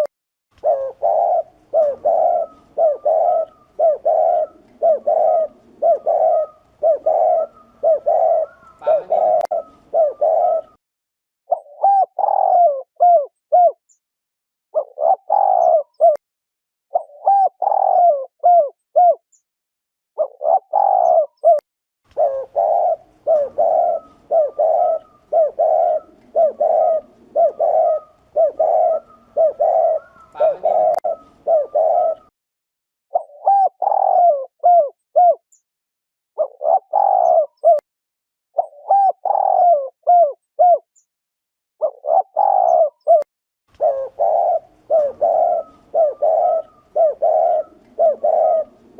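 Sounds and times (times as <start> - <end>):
dove cooing: 0.0 - 10.8, 11.5 - 13.8, 14.8 - 16.2, 16.9 - 19.2, 20.2 - 32.3, 33.1 - 35.4, 36.4 - 37.8, 38.6 - 40.8, 41.8 - 48.9.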